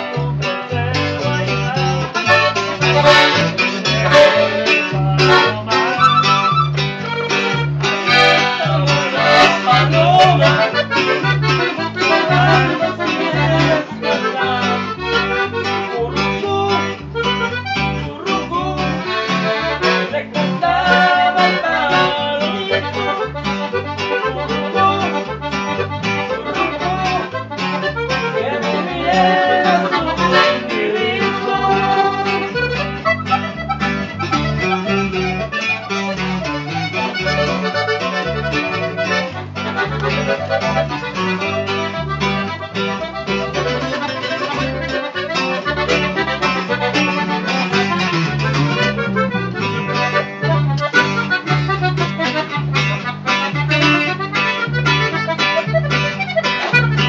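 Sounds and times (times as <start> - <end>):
accordion melody: 0.0 - 57.0
alternating bass line: 0.0 - 57.0
strummed guitar: 0.0 - 57.0.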